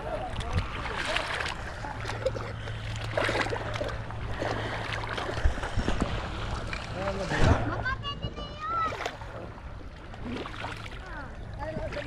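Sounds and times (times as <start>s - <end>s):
low hum: 0.0s - 12.0s
water sloshing and splashing: 0.0s - 12.0s.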